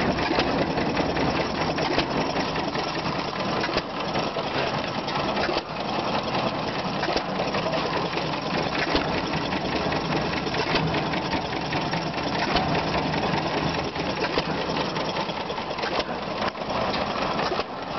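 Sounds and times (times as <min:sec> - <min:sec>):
gasoline engine running: 0:00.0 - 0:17.9
rapid mechanical clatter: 0:00.0 - 0:17.9.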